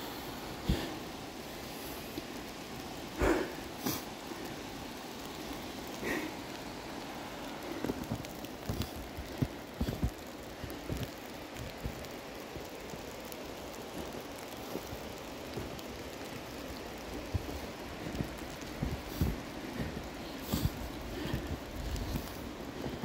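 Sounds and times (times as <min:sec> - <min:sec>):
creek water hissing: 0:00.0 - 0:23.0
falling wet snow: 0:00.0 - 0:23.0.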